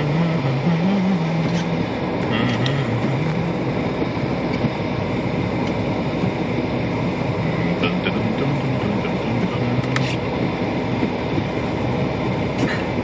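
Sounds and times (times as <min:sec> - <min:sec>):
car engine hum: 0:00.0 - 0:13.0
tyre noise on snowy road: 0:00.0 - 0:13.0.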